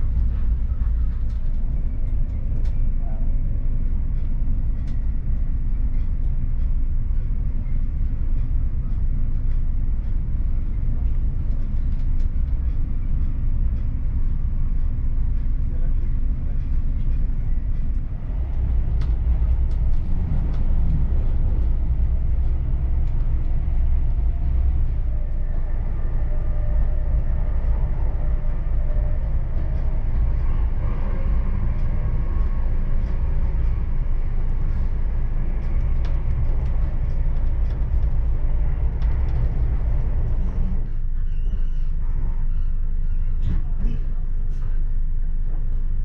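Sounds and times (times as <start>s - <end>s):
wheels rumbling on rails: 0.0s - 46.0s.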